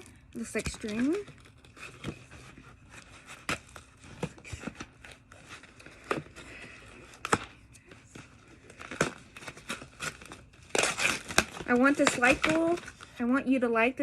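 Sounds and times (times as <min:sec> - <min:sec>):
packaging crinkling and rustling: 0:00.0 - 0:13.3.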